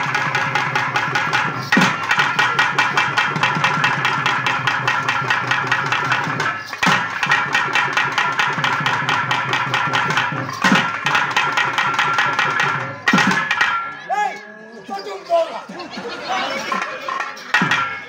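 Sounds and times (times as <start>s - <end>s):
fast steady drumming: 0.0s - 14.0s, 16.2s - 18.0s.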